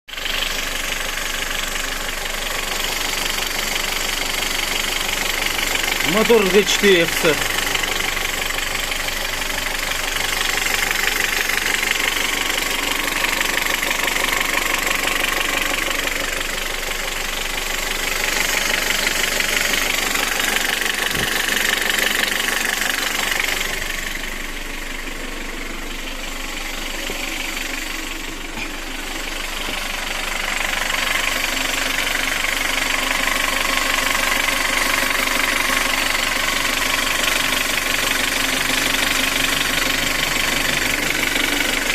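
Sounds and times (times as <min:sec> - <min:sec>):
engine idling with knock: 0:00.1 - 0:41.9.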